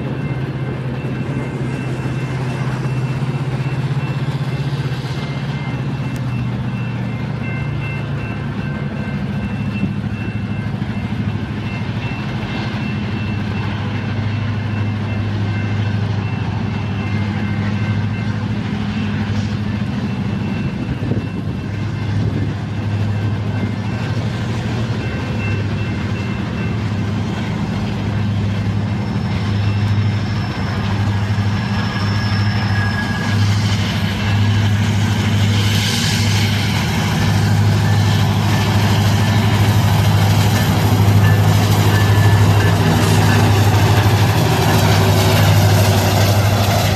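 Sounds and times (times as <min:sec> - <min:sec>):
diesel locomotives passing: 0:00.0 - 0:46.9.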